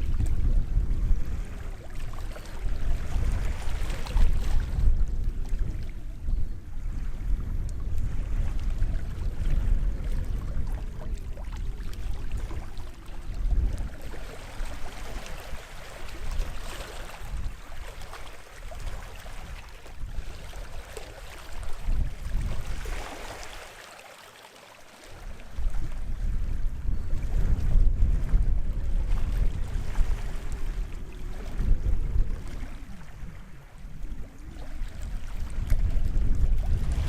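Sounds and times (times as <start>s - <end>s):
small waves washing ashore: 0.0s - 6.2s, 6.8s - 26.8s, 27.4s - 37.0s
wind rumble on microphone: 0.0s - 23.6s, 25.0s - 37.0s.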